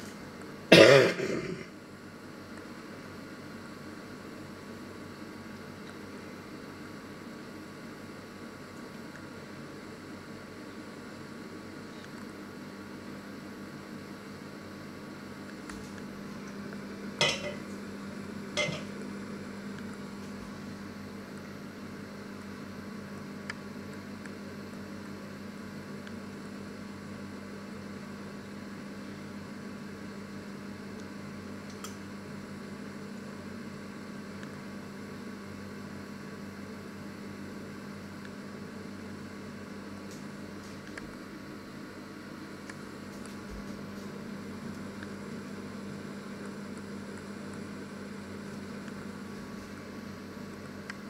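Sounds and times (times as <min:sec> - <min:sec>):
microwave oven humming: 0:00.0 - 0:51.0.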